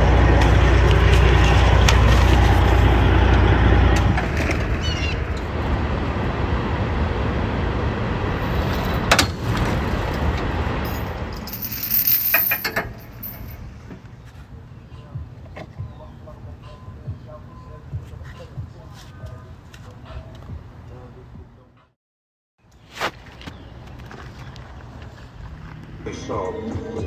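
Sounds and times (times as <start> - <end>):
vehicle engine rumbling: 0.0 - 21.8, 23.2 - 26.6.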